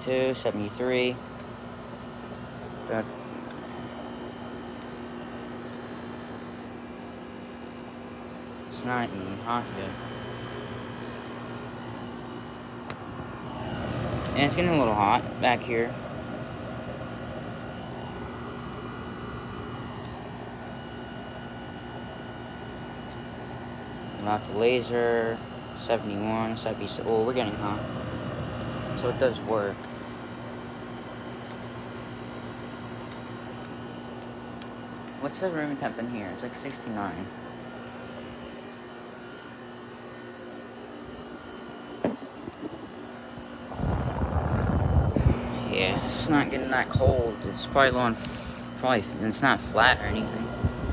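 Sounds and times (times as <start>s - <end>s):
air conditioner humming: 0.0s - 50.9s.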